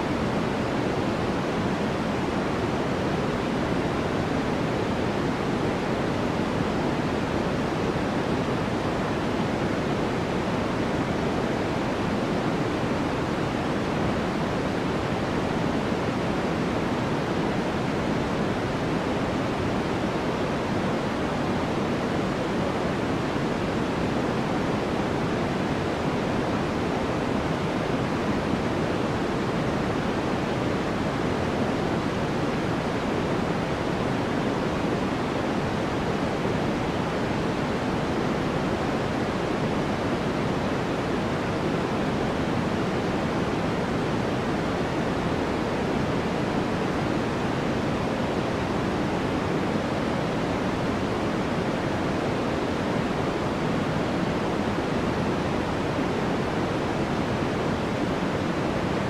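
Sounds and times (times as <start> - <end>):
white noise: 0.0 - 59.0.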